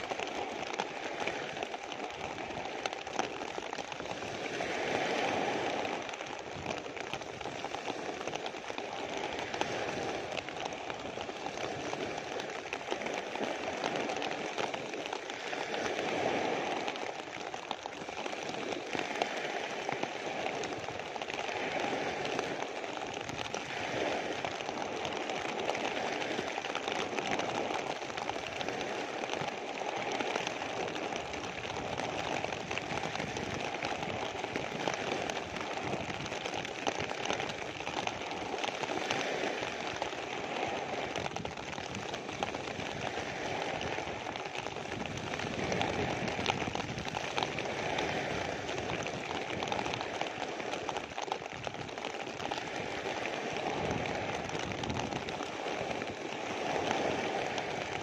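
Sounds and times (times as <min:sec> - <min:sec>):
rain on plastic sheet: 0:00.0 - 0:58.0
waves breaking on pebbles: 0:00.0 - 0:58.0.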